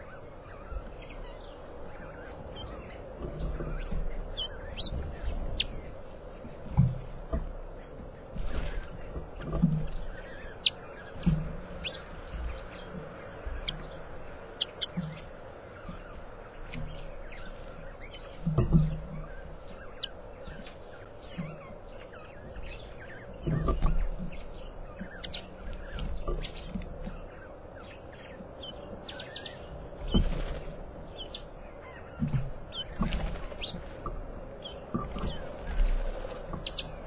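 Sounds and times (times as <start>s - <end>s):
faint steady hum: 0.0s - 37.0s
small birds chirping: 0.0s - 37.0s.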